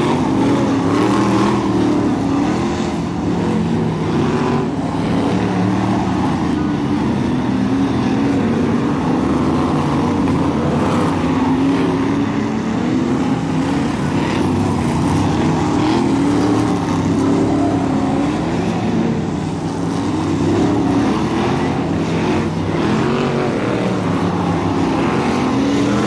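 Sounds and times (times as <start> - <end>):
race car engines: 0.0 - 26.0.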